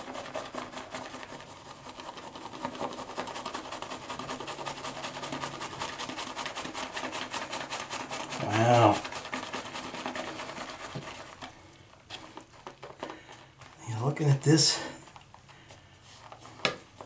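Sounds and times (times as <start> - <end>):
shaving brush swishing in plastic bowl: 0.0 - 17.0.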